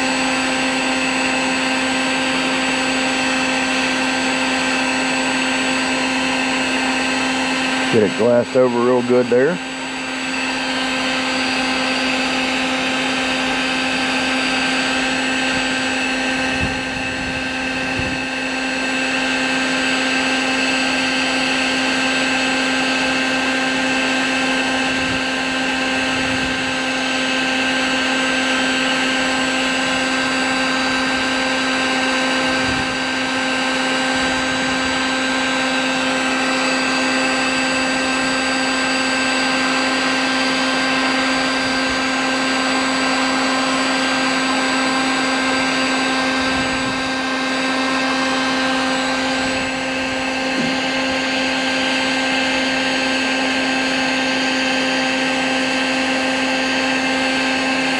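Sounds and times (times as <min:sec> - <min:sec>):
heat gun fan whining: 0:00.0 - 0:57.9.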